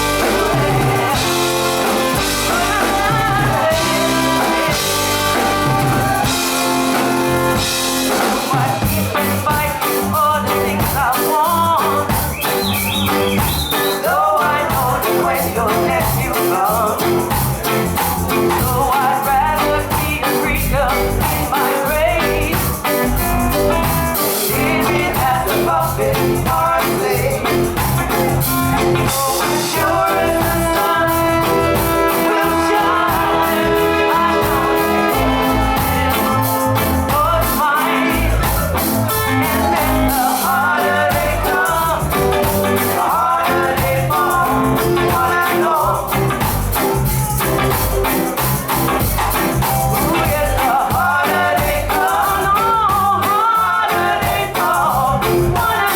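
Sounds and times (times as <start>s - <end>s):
live reggae band playing: 0.0s - 55.9s
person singing: 0.0s - 55.9s.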